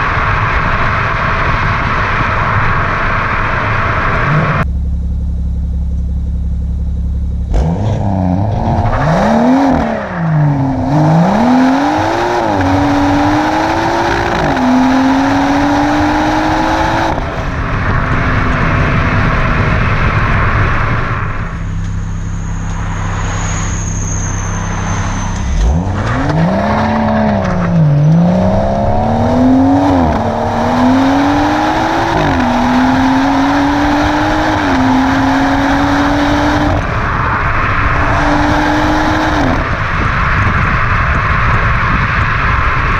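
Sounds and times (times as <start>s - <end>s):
car engine accelerating hard: 5.8s - 42.9s.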